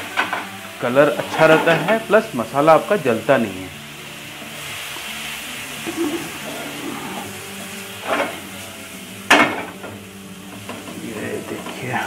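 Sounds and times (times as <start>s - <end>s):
masala sizzling in a frying pan: 0.0s - 12.0s.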